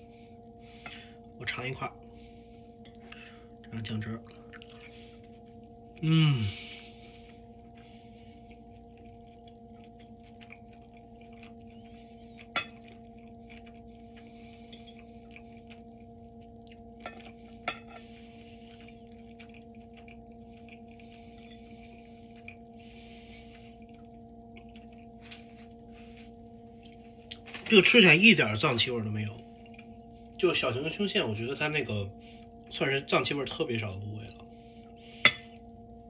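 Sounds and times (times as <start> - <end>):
soft chewing: 0.0 - 32.8
electrical hum: 0.0 - 36.0.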